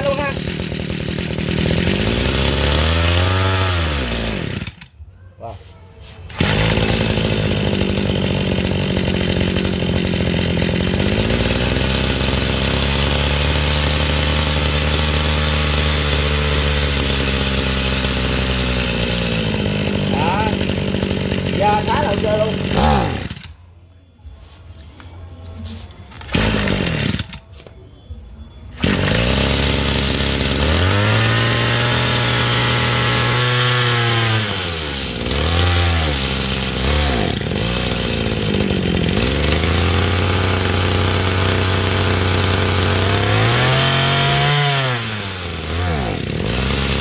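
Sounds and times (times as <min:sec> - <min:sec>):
brush cutter engine revving: 0:00.0 - 0:04.9, 0:06.2 - 0:23.6, 0:26.2 - 0:27.4, 0:28.8 - 0:47.0.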